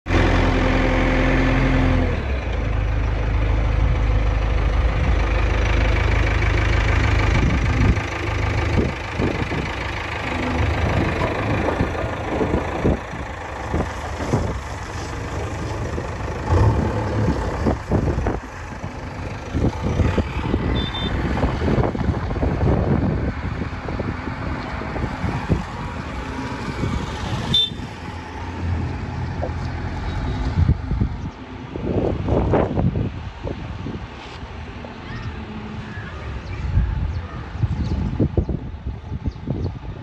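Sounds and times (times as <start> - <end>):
diesel engine running: 0.1 - 39.2.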